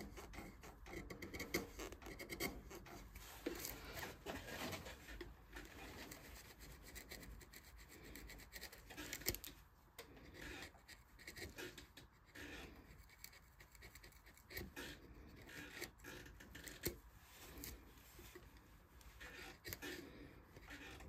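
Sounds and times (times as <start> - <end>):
carving tool scratching wood: 0.0 - 21.0.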